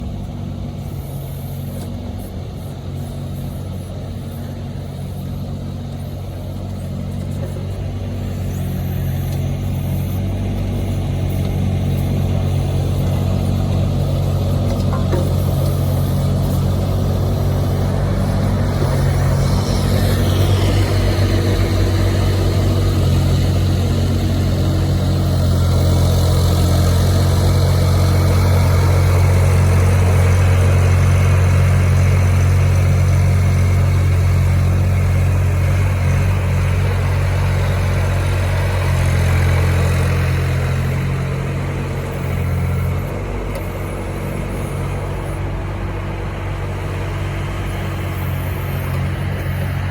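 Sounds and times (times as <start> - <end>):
excavator engine running: 0.0 - 49.9.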